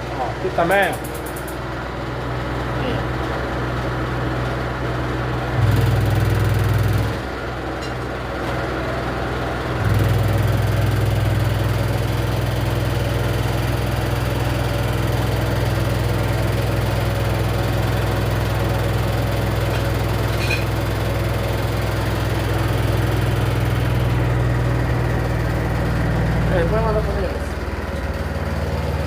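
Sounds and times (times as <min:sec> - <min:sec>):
washer-dryer humming: 0:00.0 - 0:29.0.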